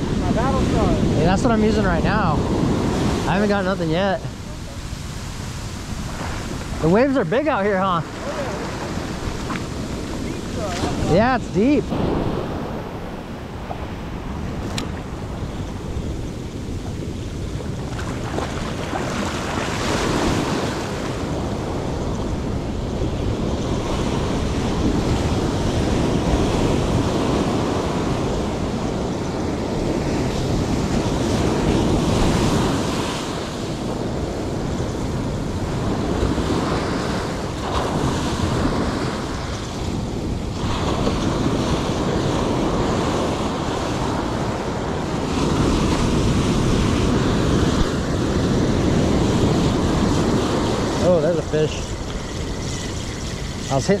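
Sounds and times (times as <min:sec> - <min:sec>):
ocean waves breaking on a beach: 0:00.0 - 0:54.0
wind buffeting the microphone: 0:00.0 - 0:54.0.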